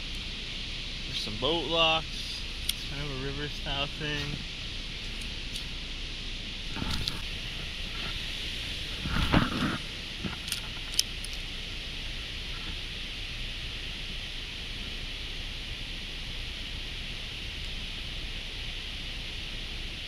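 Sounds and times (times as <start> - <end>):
high outdoor hiss: 0.0 - 20.0.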